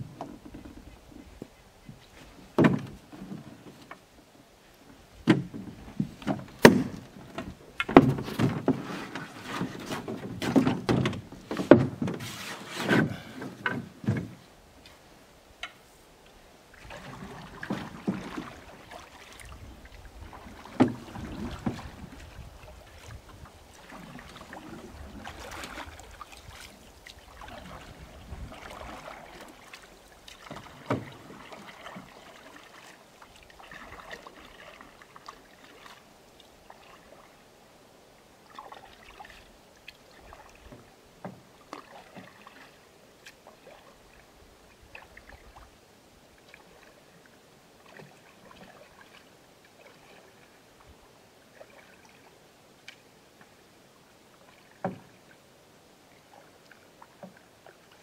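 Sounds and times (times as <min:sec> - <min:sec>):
canoe paddle strokes in water: 0:00.0 - 0:58.0.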